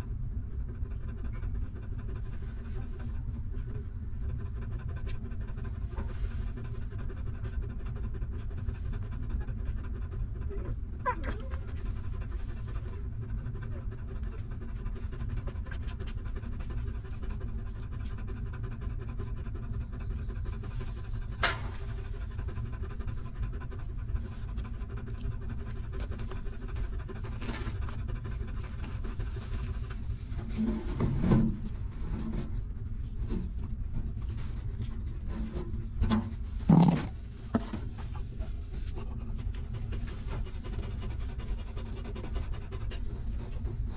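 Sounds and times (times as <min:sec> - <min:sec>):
dog panting: 0:00.0 - 0:43.9.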